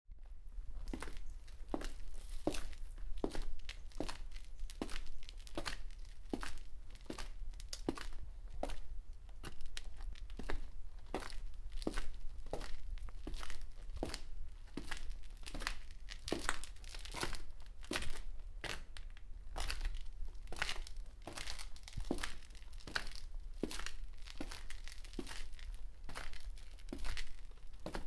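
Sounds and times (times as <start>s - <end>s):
footsteps crunching: 0.8s - 8.8s, 9.4s - 18.9s, 19.6s - 28.0s.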